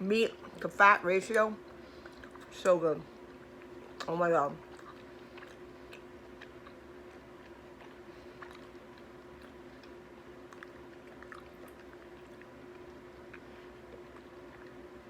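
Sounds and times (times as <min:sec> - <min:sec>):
steady low hum: 0:00.0 - 0:15.0
soft wet chewing: 0:00.2 - 0:15.0.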